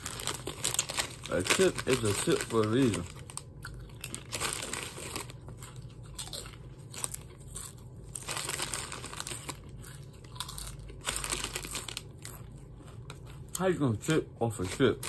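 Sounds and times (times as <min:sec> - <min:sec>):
chips being crunched and chewed: 0:00.0 - 0:15.0.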